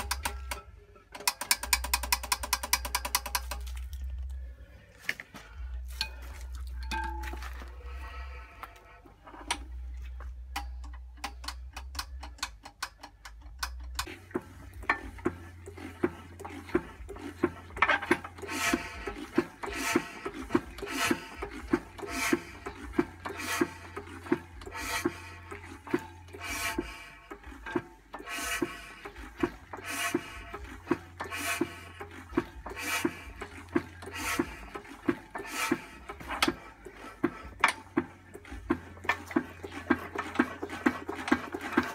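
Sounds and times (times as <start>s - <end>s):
engine being hand-cranked clattering: 0.0s - 4.4s, 5.0s - 41.9s.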